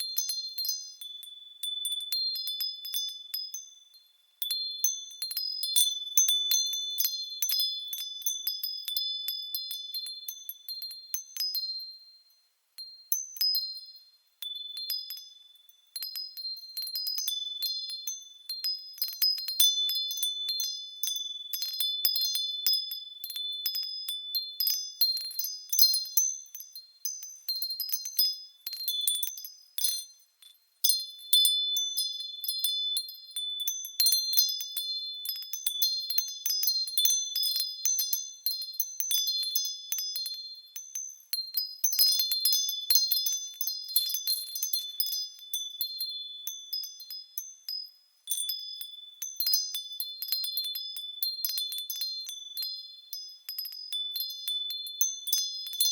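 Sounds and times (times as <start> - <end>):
wind chime tinkling: 0.0 - 55.9.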